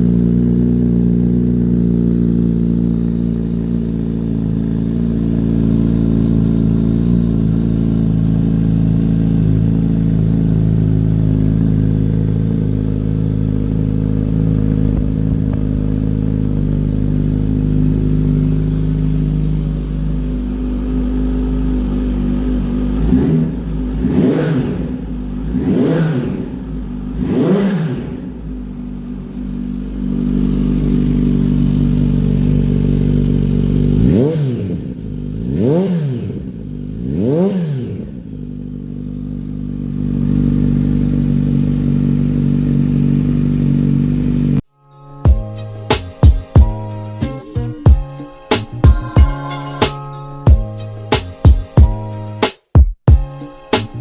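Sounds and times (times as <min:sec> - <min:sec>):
motorcycle engine idling: 0:00.0 - 0:44.6, 0:45.2 - 0:47.2, 0:50.5 - 0:52.4
motorcycle engine revs: 0:00.0 - 0:44.6.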